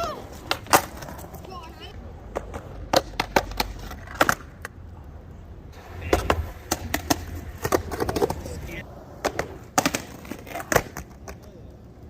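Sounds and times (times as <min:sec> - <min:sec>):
skateboard clacking on ground: 0:00.0 - 0:05.1, 0:05.8 - 0:12.0
skateboard wheels rumbling on pavement: 0:00.0 - 0:12.0.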